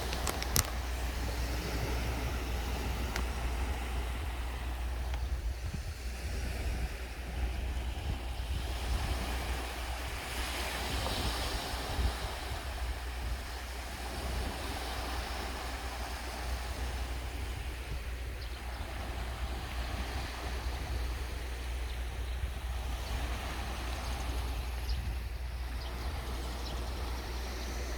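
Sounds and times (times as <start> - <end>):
sea waves washing onto beach: 0.0 - 27.9
wind rumble on microphone: 0.0 - 27.9.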